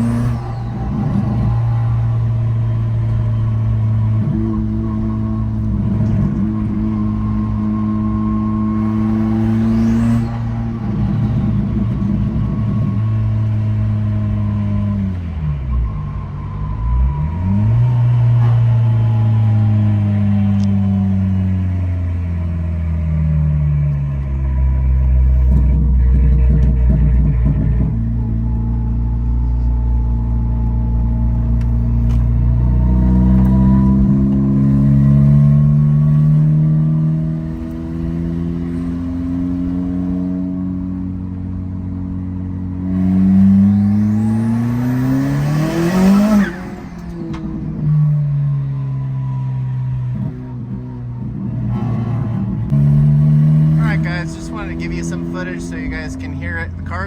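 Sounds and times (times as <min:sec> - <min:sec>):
car engine drone from inside: 0:00.0 - 0:57.0.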